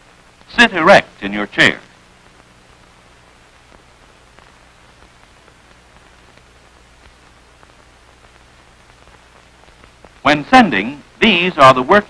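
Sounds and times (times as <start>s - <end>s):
faint crackles: 0.0s - 12.0s
film soundtrack hiss: 0.0s - 12.0s.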